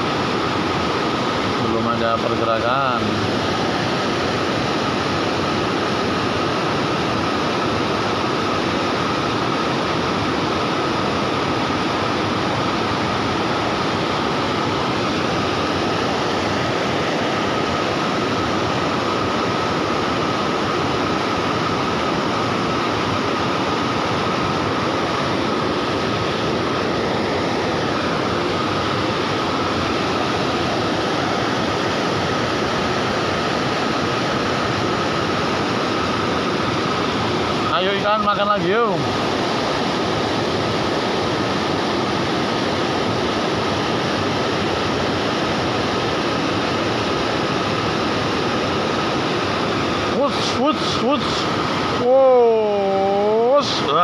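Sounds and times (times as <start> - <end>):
water rushing over weir: 0.0 - 54.0.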